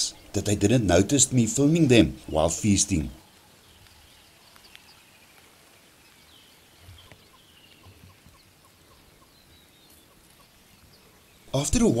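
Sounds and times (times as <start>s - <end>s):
distant birds calling: 0.0s - 12.0s.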